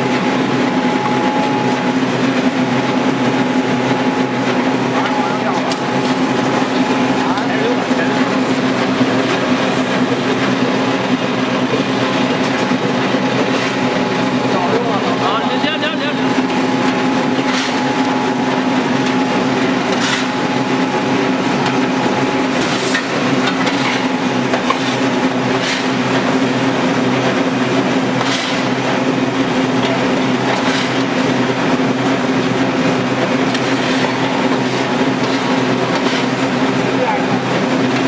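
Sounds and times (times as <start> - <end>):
oil press mechanical drone: 0.0 - 38.0.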